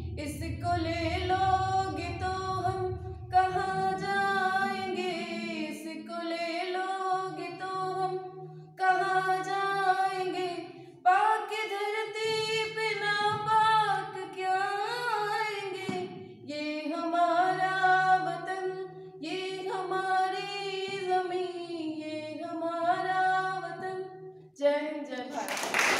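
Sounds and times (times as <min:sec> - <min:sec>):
woman singing unaccompanied: 0:00.1 - 0:25.3.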